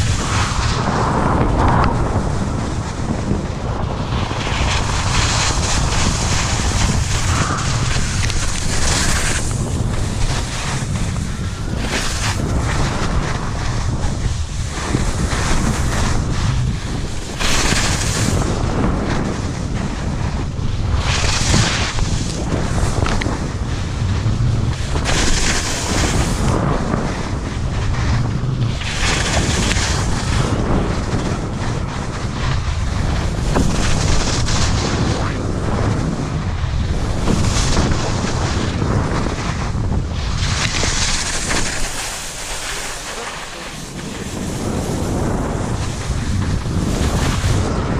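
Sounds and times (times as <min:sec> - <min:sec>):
skis scraping snow: 0:00.0 - 0:47.9
wind buffeting microphone: 0:00.0 - 0:47.9.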